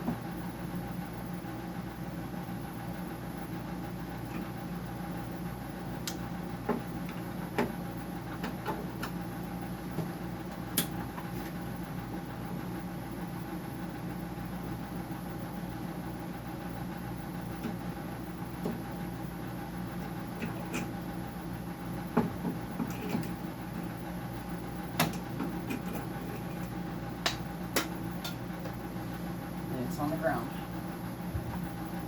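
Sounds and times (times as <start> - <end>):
dehumidifier humming: 0.0 - 32.0.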